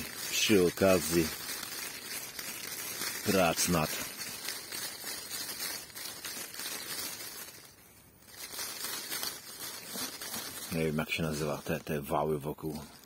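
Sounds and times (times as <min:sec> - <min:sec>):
leaves rustling on shaken twig: 0:00.0 - 0:13.0.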